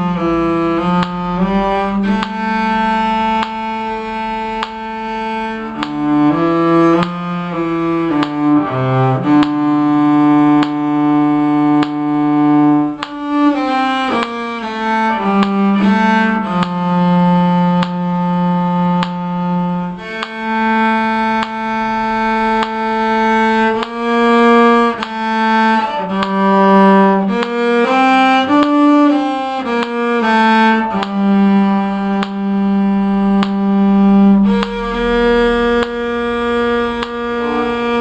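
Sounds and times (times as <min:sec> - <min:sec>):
bowed string instrument melody: 0:00.0 - 0:38.0.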